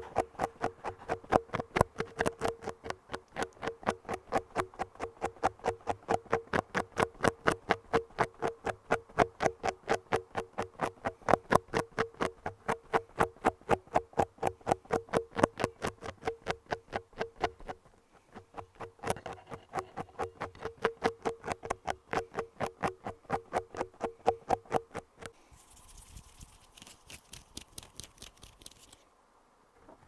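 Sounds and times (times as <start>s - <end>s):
fast sharp tapping: 0.0s - 25.4s.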